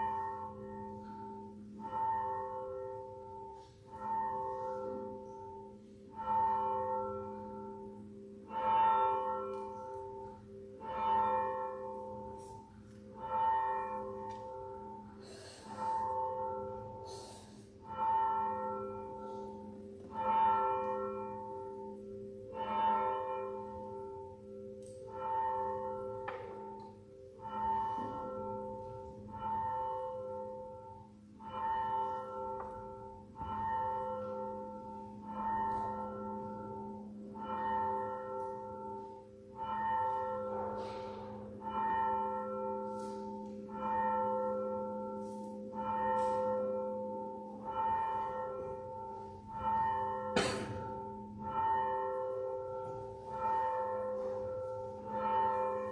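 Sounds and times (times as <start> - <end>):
church bell tolling: 0.0 - 55.9.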